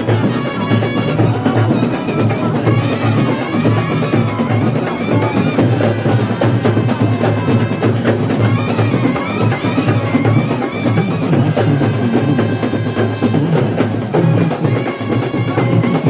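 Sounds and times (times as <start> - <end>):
fast drumming: 0.0 - 16.0
wavering high melody: 0.0 - 16.0.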